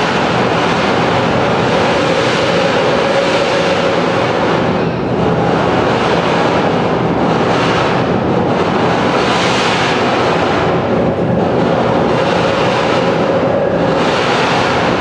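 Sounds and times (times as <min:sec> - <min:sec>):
dense electronic noise music: 0:00.0 - 0:15.0.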